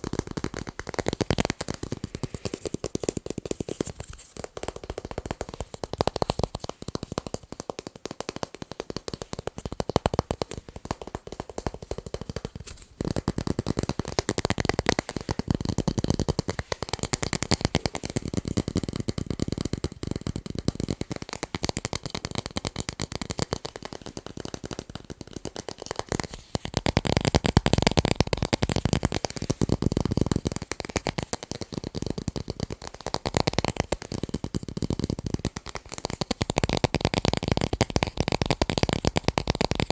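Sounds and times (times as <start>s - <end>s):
fast tapping on tape: 0.0s - 39.9s.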